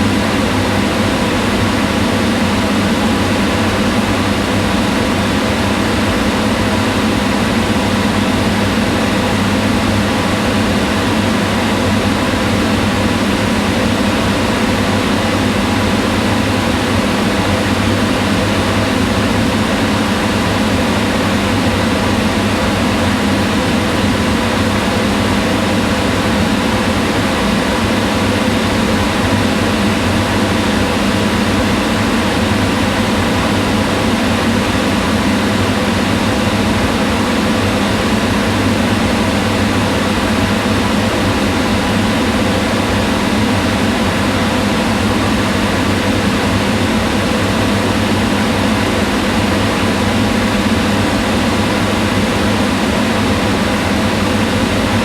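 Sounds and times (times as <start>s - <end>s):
range hood fan whirring: 0.0s - 55.0s.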